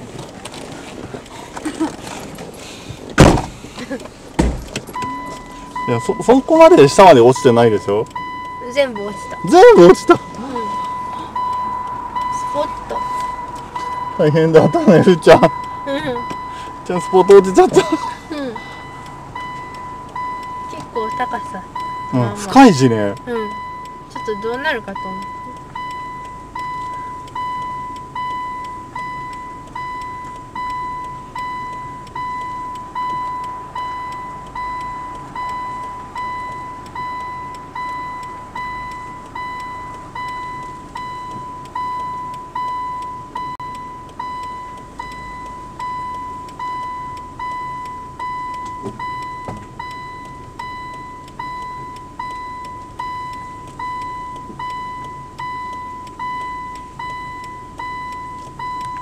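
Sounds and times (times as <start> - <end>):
car warning chime dinging: 0.0 - 59.0
engine rumble: 0.0 - 59.0.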